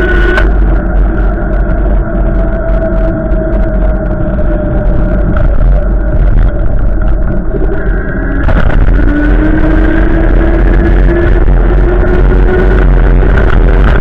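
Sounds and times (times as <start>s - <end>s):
steady pitched tones: 0.0s - 14.0s
wind buffeting microphone: 0.0s - 14.0s.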